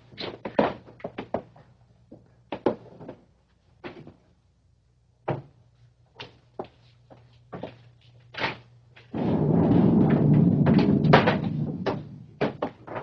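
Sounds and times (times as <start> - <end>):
footsteps and knocks: 0.0 - 4.4, 5.3 - 13.0
faint low hum: 0.0 - 13.0.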